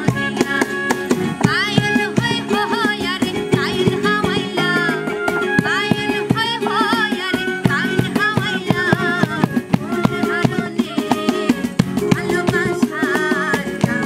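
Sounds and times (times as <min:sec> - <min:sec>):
acoustic guitar: 0:00.0 - 0:14.0
hand percussion steady beat: 0:00.0 - 0:14.0
woman singing folk song: 0:00.0 - 0:14.0.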